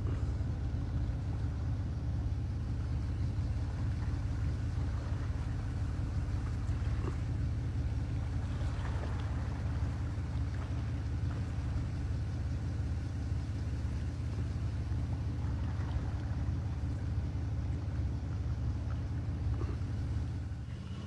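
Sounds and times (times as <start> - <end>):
vehicle driving on sandy track: 0.0 - 21.0.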